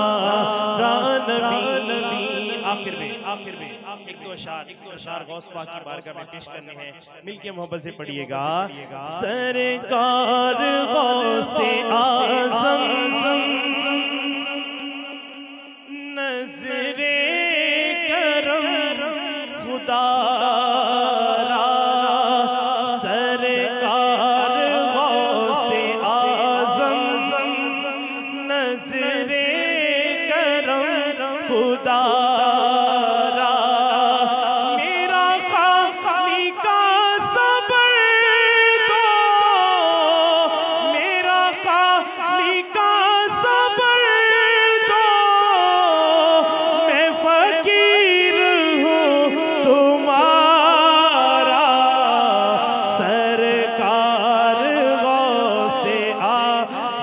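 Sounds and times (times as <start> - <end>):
man singing into a microphone: 0.0 - 57.0.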